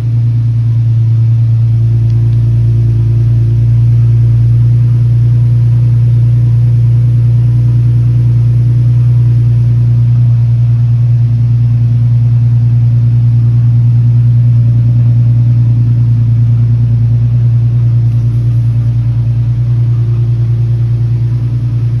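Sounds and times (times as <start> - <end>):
car engine idling loudly: 0.0 - 22.0.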